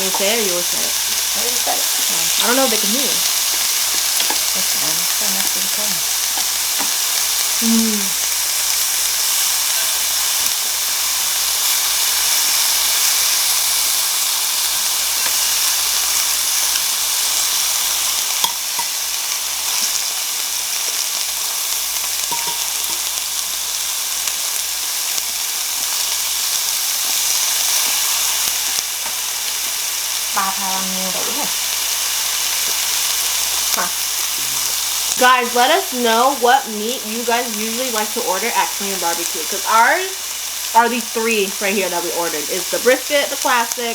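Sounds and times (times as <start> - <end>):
beef sizzling on a grill: 0.0 - 43.9.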